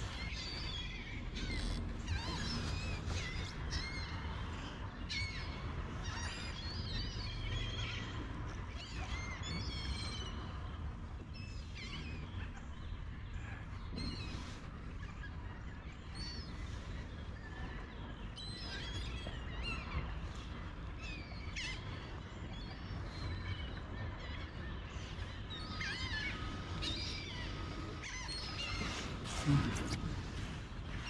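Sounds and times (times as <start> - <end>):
birds chirping: 0.0 - 31.0
steady low rumble: 0.0 - 31.0.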